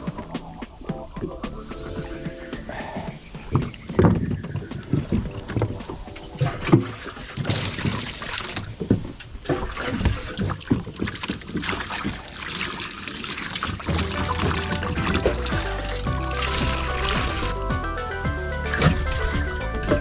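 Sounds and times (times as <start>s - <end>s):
water splashing around a boat: 0.0s - 17.8s, 18.7s - 20.0s.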